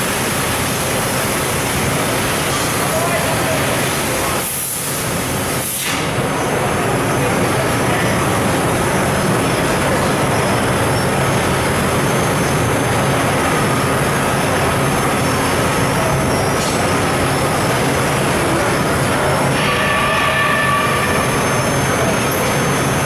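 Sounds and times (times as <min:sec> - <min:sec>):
laser cutting machine running: 0:00.0 - 0:23.0.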